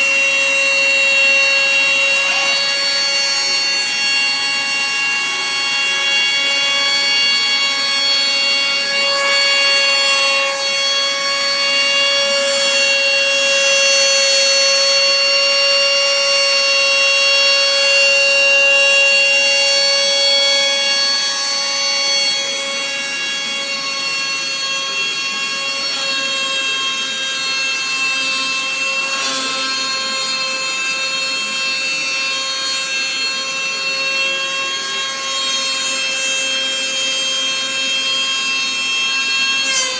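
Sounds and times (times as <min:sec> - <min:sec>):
high-speed spindle whine: 0:00.0 - 0:39.9.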